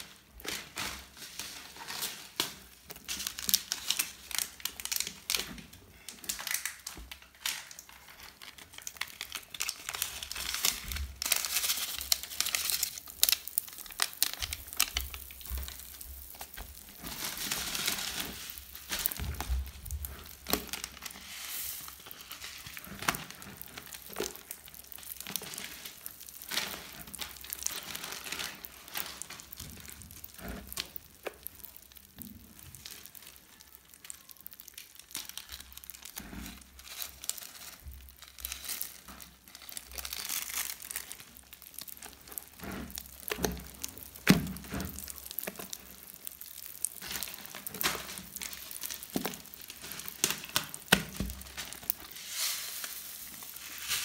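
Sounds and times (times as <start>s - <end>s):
slime with beads crackling: 0.0s - 54.0s.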